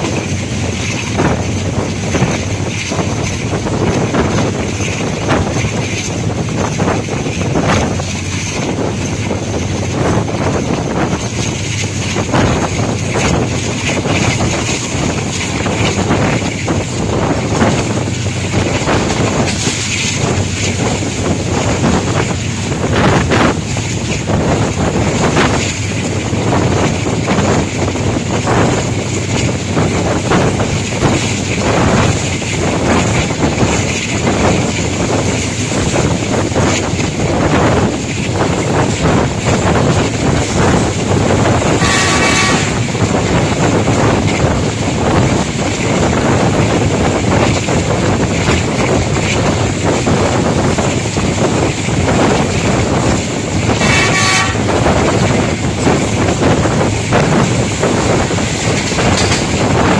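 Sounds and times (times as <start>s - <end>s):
train coaches rumbling: 0.0s - 59.9s
wheels clicking over track: 0.0s - 59.9s
wind rushing over microphone: 0.0s - 59.9s.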